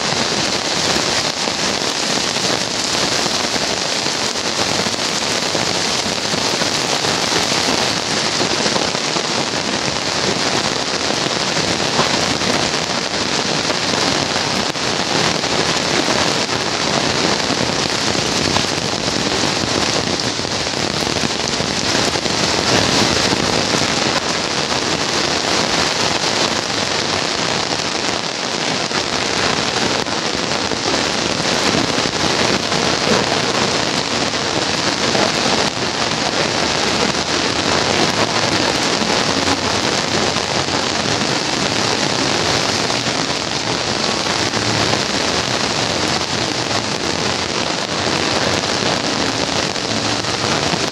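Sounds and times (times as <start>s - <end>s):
heavy rain on pavement: 0.0s - 50.9s.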